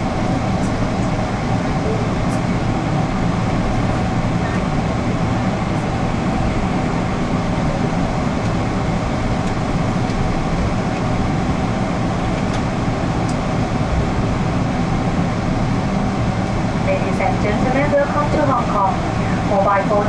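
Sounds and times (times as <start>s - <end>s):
cabin low rumble: 0.0s - 20.0s.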